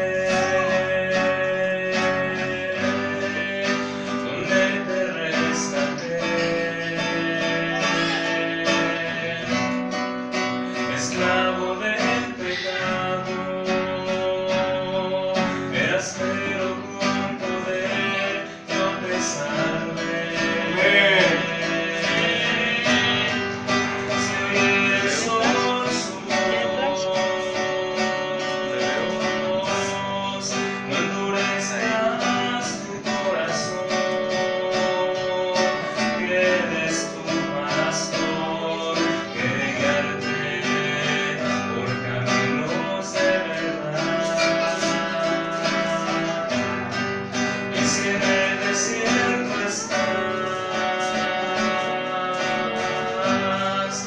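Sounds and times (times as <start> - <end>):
guitar strumming chords: 0.0 - 54.0.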